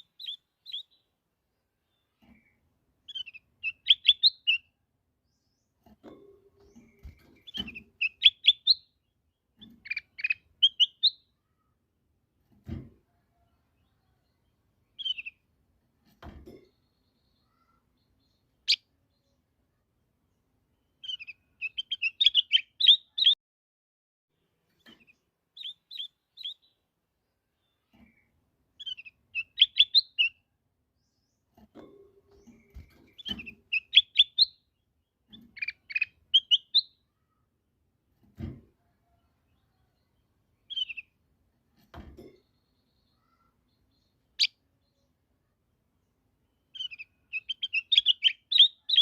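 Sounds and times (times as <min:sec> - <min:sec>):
bird chirping: 0:00.0 - 0:11.9, 0:13.3 - 0:15.5, 0:16.2 - 0:23.4, 0:24.4 - 0:37.6, 0:39.0 - 0:41.2, 0:42.2 - 0:49.0.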